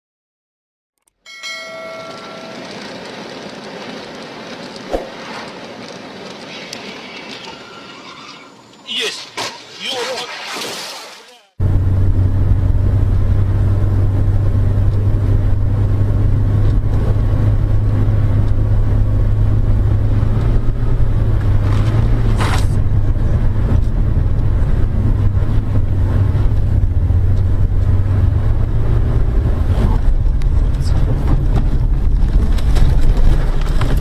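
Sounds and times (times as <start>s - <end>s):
car engine and road noise: 1.0s - 10.6s, 11.5s - 34.0s.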